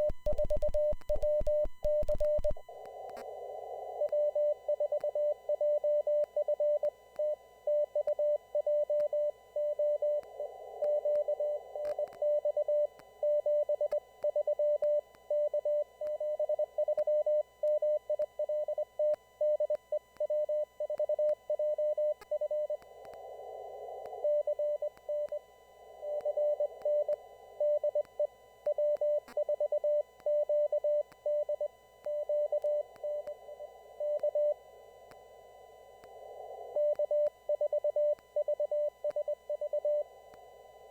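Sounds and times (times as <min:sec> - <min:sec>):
morse code beep tone: 0:00.0 - 0:02.7, 0:04.0 - 0:23.0, 0:24.2 - 0:34.7, 0:36.7 - 0:40.1.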